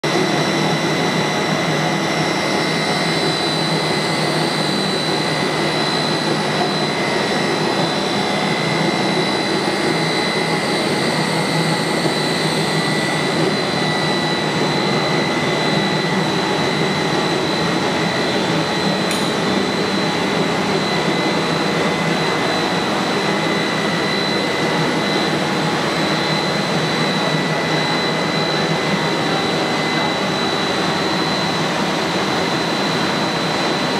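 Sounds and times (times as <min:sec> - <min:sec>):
high-pitched two-tone whine: 0:00.0 - 0:33.9
extruder machine running: 0:00.1 - 0:33.9.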